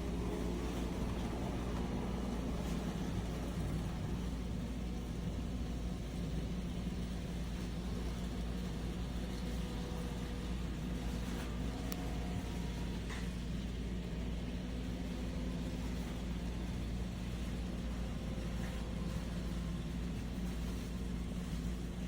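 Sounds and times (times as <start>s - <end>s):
model train motors humming: 0.0s - 22.0s.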